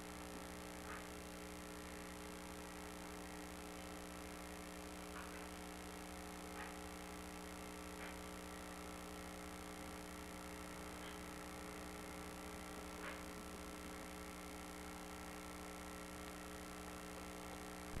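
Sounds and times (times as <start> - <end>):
faint electrical hum and hiss: 0.0 - 18.0.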